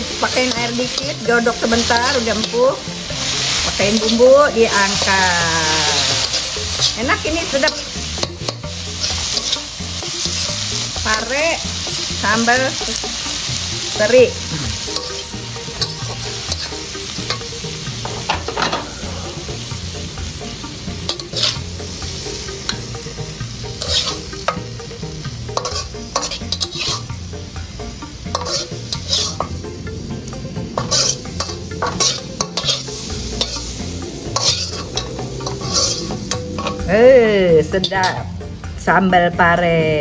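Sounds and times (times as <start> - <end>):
metal spatula scraping a wok: 0.0 - 29.7, 30.6 - 37.0.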